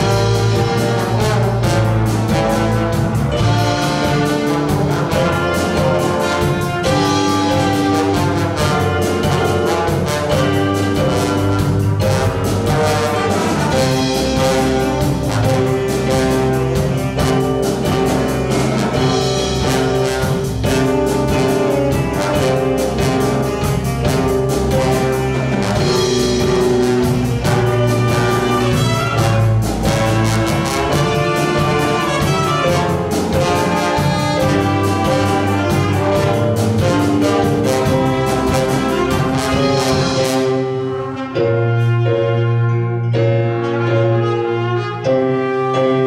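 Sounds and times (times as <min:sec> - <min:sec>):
drum kit steady beat: 0:00.0 - 0:41.2
brass horns holding notes: 0:00.0 - 0:46.0.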